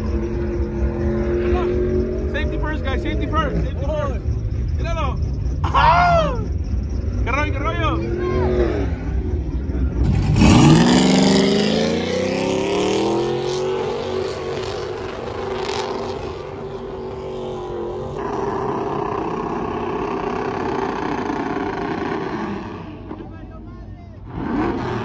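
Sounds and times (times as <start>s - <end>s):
truck engine revving hard: 0.0s - 23.2s, 24.2s - 25.0s.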